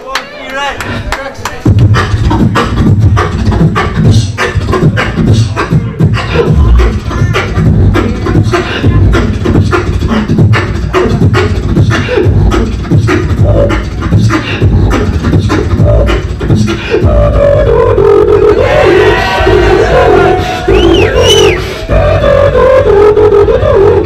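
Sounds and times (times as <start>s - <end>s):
person beatboxing: 0.8s - 24.0s.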